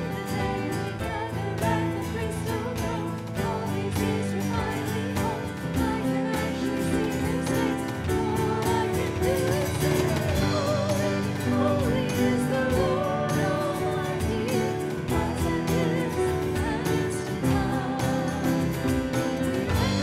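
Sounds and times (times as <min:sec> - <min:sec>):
grand piano: 0:00.0 - 0:20.0
keyboard: 0:00.0 - 0:20.0
vocal trio singing: 0:00.0 - 0:20.0.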